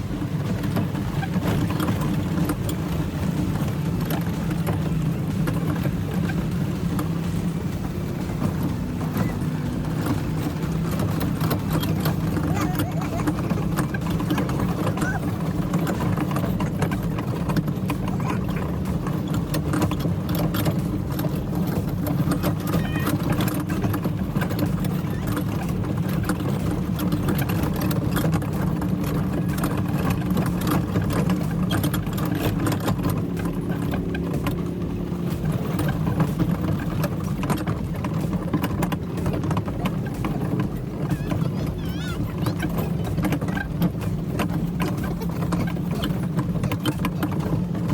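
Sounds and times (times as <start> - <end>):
rattling clatter: 0.0 - 47.9
vehicle engine running: 0.0 - 47.9.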